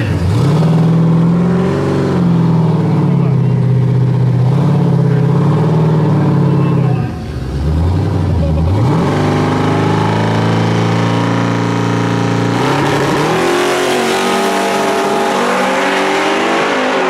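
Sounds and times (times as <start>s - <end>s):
drag car engine revving: 0.0s - 17.0s.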